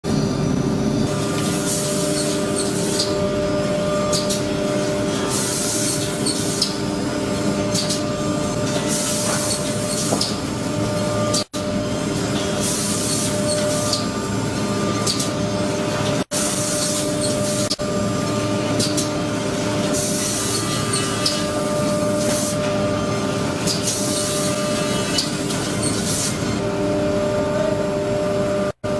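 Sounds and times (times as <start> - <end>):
woodworking machinery humming: 0.0 - 28.9.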